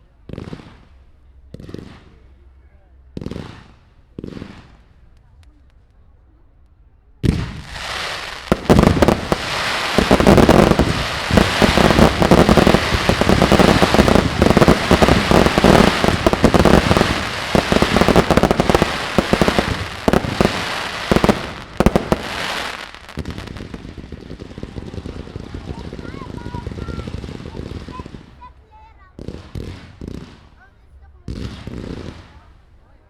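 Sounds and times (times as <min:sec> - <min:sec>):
fireworks bangs and crackling: 0:00.0 - 0:05.7, 0:07.2 - 0:33.0.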